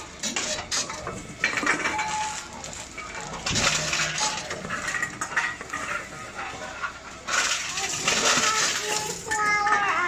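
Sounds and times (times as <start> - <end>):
bottles clinking and rattling: 0.0 - 10.0.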